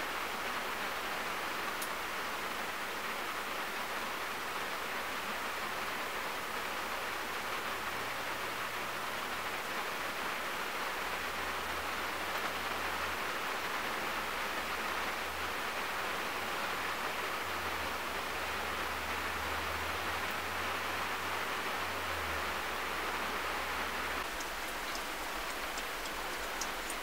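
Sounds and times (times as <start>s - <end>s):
rain on a car roof: 0.0s - 27.0s.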